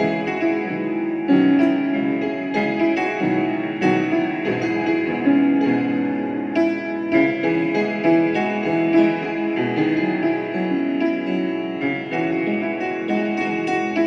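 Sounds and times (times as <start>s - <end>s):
solo piano music: 0.0s - 14.0s.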